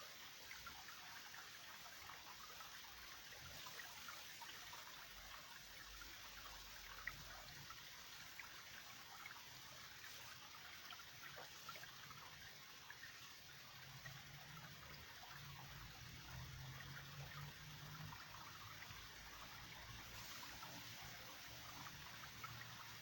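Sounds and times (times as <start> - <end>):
stream trickling: 0.0 - 23.0.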